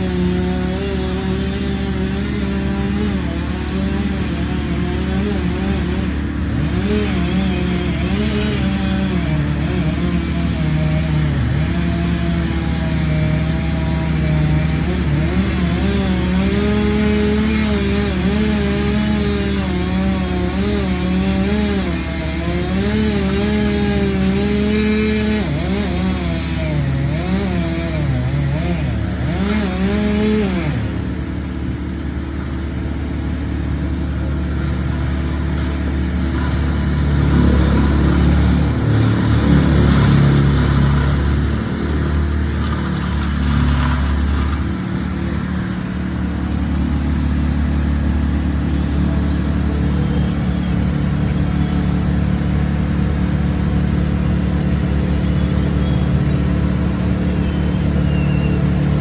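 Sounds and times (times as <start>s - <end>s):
crane engine running: 0.0s - 59.0s.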